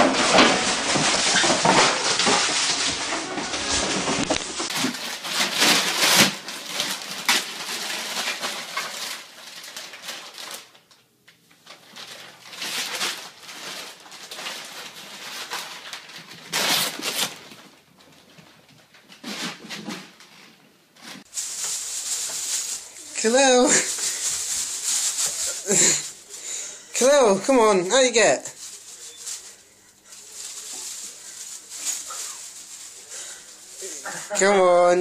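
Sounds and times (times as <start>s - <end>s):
plastic bag rustling: 0.0s - 10.9s, 11.5s - 19.6s, 21.0s - 35.0s.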